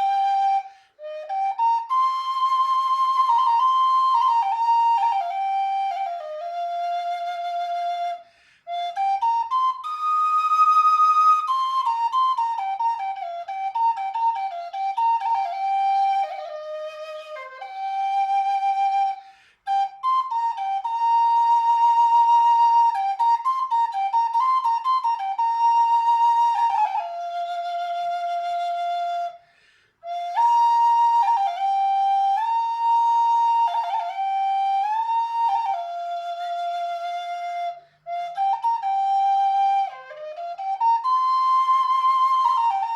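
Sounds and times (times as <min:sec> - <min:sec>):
solo flute melody: 0:00.0 - 0:42.9.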